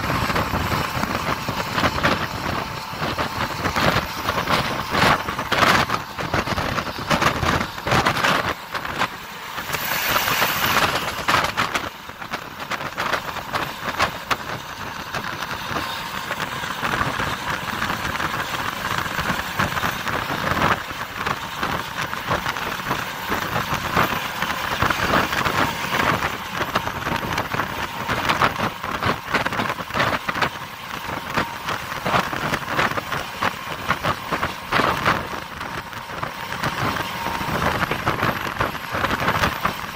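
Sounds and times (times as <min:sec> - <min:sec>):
bus road and engine noise: 0:00.0 - 0:39.9
wind buffeting microphone: 0:00.0 - 0:39.9.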